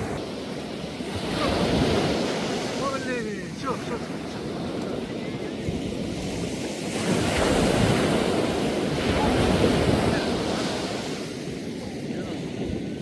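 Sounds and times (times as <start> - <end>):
sea waves washing onto shore: 0.0 - 13.0
wind on microphone: 0.0 - 13.0.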